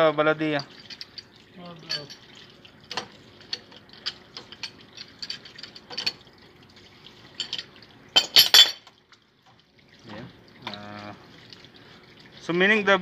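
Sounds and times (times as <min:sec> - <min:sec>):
water trickling from pipe: 0:00.0 - 0:13.0.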